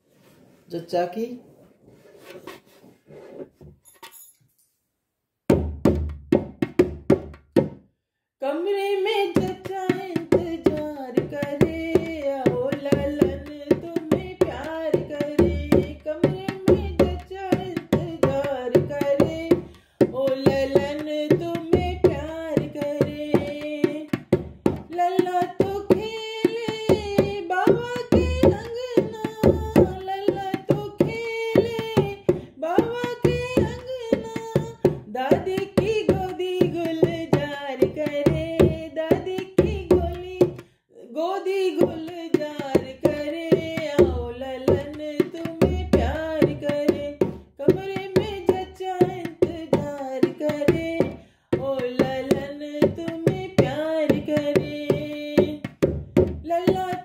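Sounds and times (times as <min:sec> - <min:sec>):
hand percussion beat: 0:05.5 - 0:07.8, 0:09.4 - 0:40.6, 0:41.8 - 0:57.0
woman singing folk song: 0:08.4 - 0:57.0.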